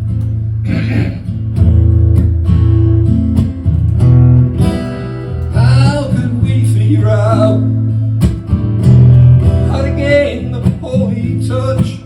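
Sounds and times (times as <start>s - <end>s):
acoustic guitar strumming: 0.0s - 12.0s
bass notes: 0.0s - 12.0s.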